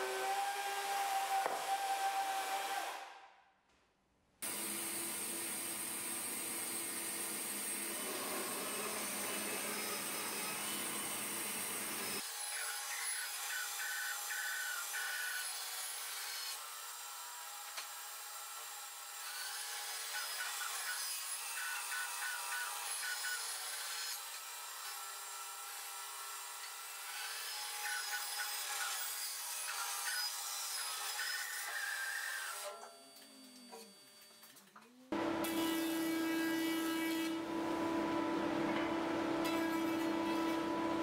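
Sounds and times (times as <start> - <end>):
band saw cutting wood: 0.0 - 3.2, 4.4 - 32.8, 35.2 - 41.0.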